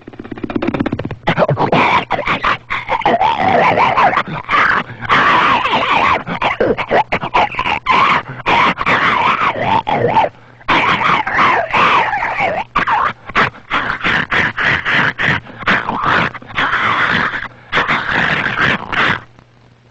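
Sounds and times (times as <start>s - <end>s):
cartoon man yelping in pain: 1.3s - 19.2s.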